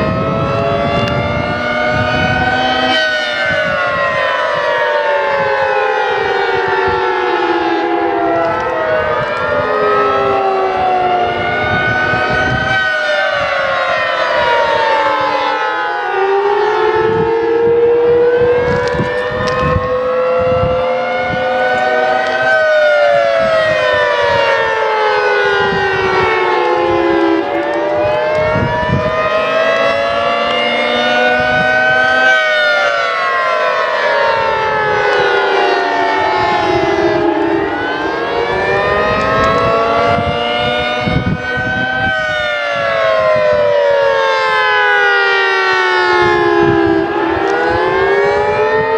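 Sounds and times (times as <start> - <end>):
civil defense siren wailing: 0.0 - 48.9.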